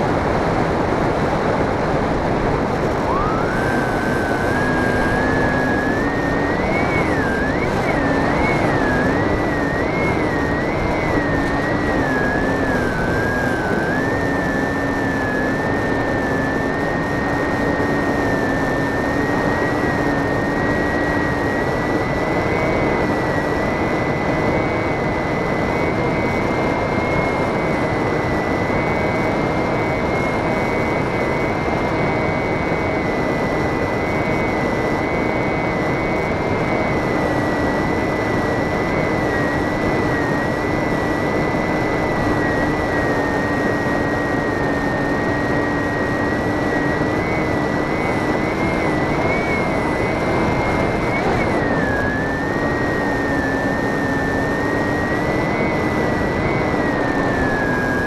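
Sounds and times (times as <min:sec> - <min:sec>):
model airplane motor whine: 0:00.0 - 0:58.0.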